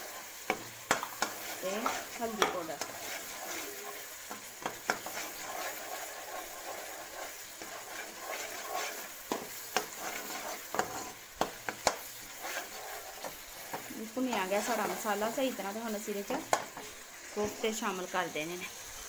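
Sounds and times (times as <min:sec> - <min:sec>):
metal spoon scraping a pan: 0:00.0 - 0:18.1
food sizzling in hot oil: 0:00.0 - 0:19.0.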